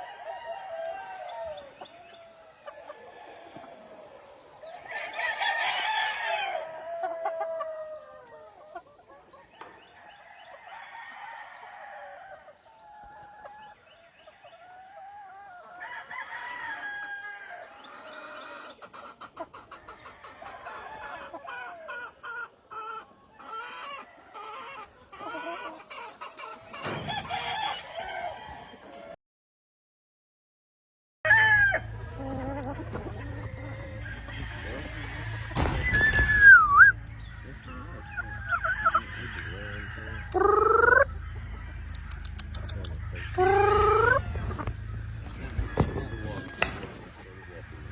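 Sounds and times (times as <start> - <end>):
roosters crowing and clucking: 0.0 - 29.2, 31.3 - 47.9.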